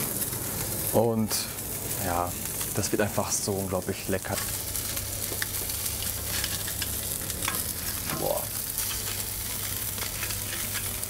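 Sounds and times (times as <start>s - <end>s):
fish sizzling on a grill: 0.0s - 11.0s.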